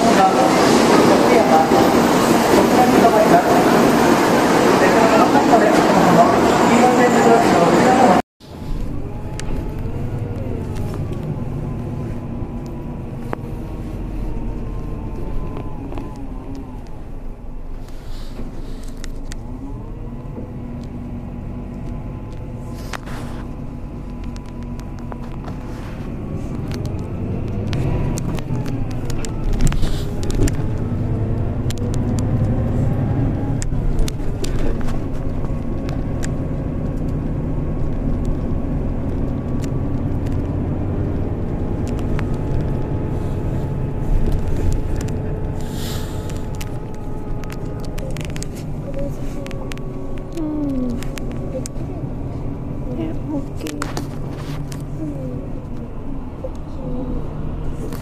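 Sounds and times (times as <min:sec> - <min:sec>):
vehicle engine and tyres rumbling: 0:00.0 - 0:58.0.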